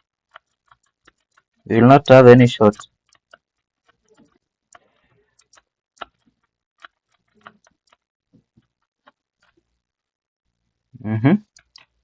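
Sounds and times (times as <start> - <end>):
faint clicks and ticks: 0.0 - 12.0.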